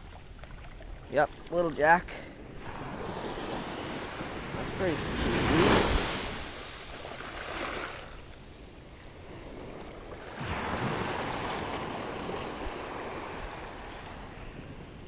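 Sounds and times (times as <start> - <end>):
surf washing up a beach: 1.1 - 15.0.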